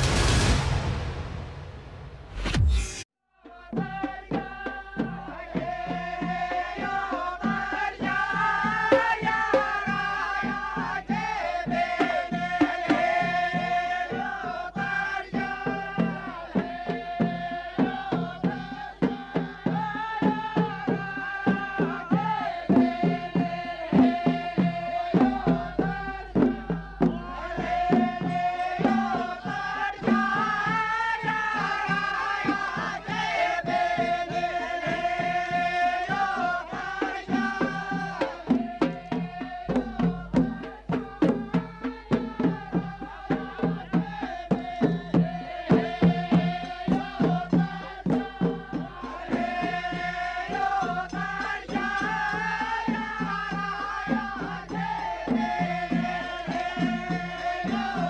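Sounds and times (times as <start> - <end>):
hand drum beat: 3.8 - 58.0.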